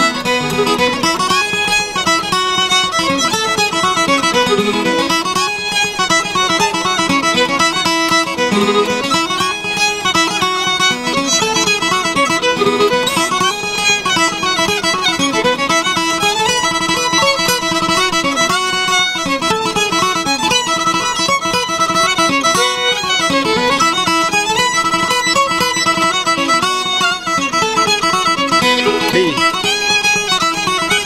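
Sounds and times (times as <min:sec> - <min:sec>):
acoustic guitar accompaniment: 0:00.0 - 0:31.0
fiddle melody: 0:00.0 - 0:31.0.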